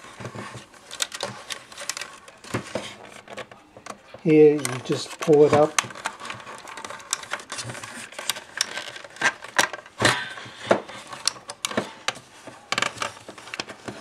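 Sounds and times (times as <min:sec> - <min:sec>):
hard plastic clicking and scraping: 0:00.1 - 0:14.0.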